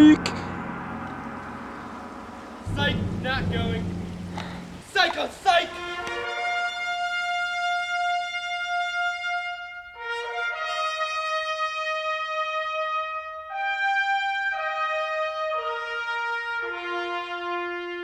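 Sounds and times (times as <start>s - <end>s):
brass instrument long held notes: 0.0s - 18.0s.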